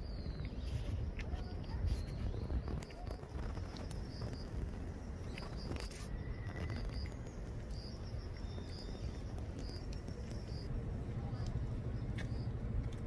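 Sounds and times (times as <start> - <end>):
insects chirping: 0.0 - 12.8
low outdoor rumble: 0.0 - 13.0.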